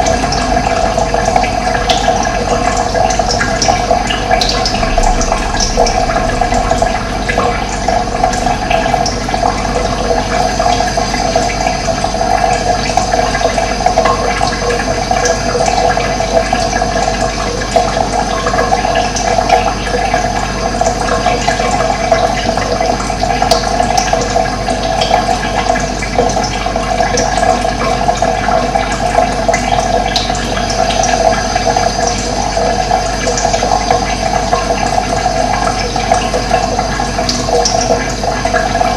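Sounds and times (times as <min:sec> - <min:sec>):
running water flowing: 0:00.0 - 0:38.9.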